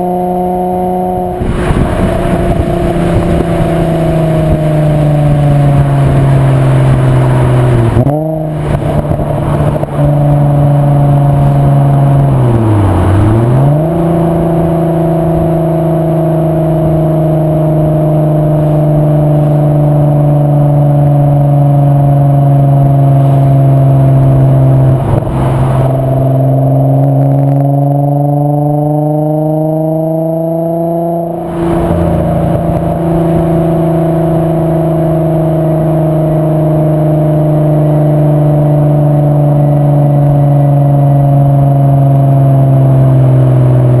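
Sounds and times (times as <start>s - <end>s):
car engine droning: 0.0s - 44.0s.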